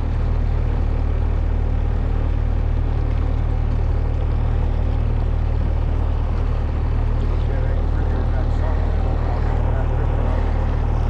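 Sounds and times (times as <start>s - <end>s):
boat motor drone: 0.0s - 11.0s
water wash: 0.0s - 11.0s.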